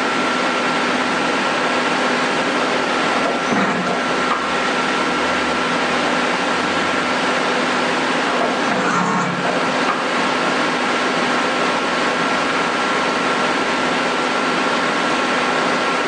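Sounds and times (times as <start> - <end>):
lathe running with high whine: 0.0 - 16.0.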